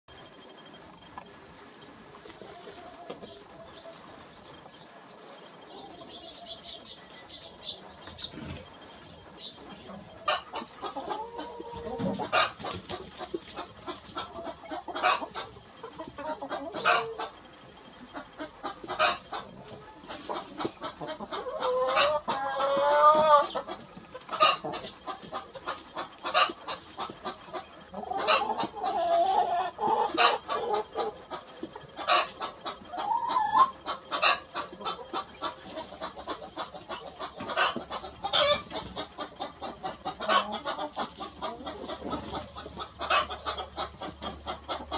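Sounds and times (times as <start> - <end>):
chickens clucking: 0.1 - 44.9.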